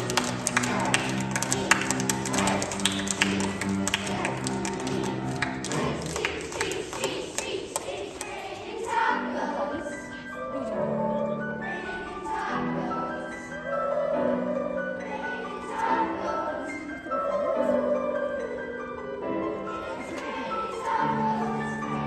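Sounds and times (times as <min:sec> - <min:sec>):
choir singing with accompaniment: 0:00.0 - 0:22.0.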